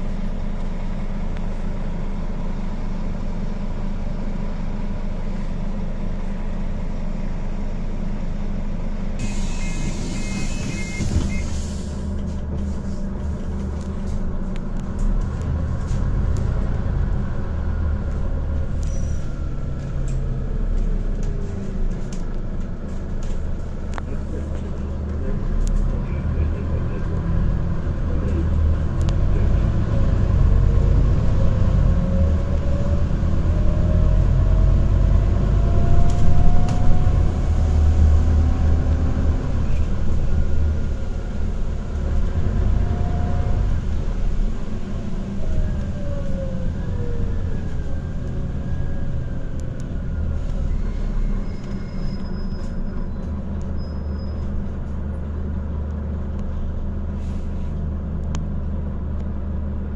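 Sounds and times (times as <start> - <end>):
bus engine whining: 0.0 - 59.9.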